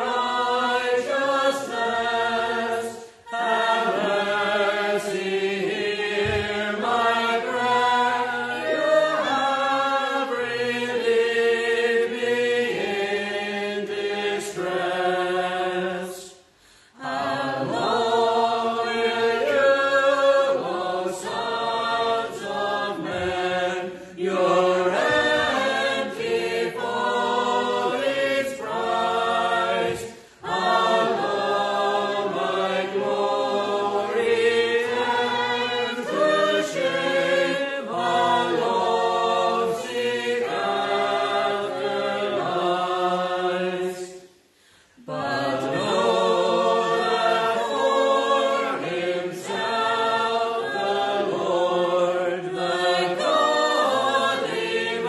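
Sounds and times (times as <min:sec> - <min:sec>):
congregation singing unaccompanied: 0:00.0 - 0:55.0.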